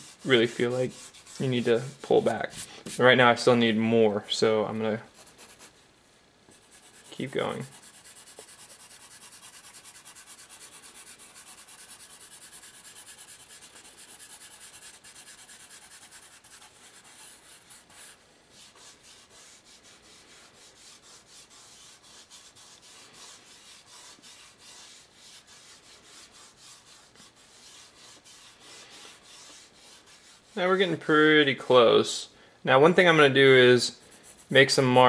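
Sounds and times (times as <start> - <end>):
pencil scratching on paper: 0.0 - 3.0, 5.1 - 5.8, 6.5 - 30.6, 34.1 - 34.8.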